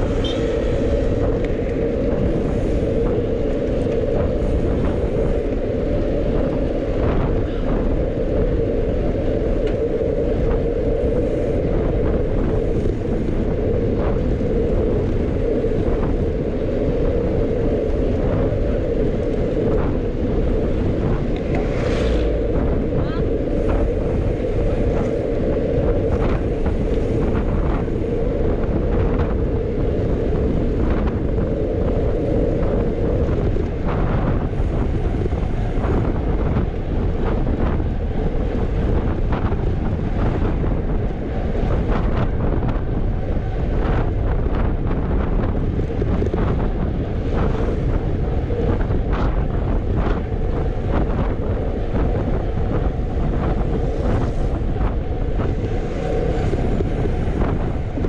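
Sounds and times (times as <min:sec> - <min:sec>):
low hum: 0:00.0 - 0:50.2
wind buffeting microphone: 0:00.0 - 0:58.0.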